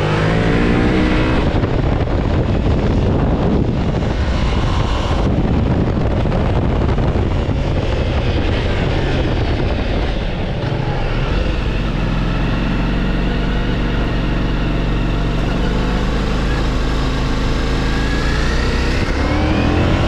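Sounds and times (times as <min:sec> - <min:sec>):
motorcycle engine running: 0:00.0 - 0:20.0
road noise: 0:00.0 - 0:20.0
wind noise: 0:00.0 - 0:20.0.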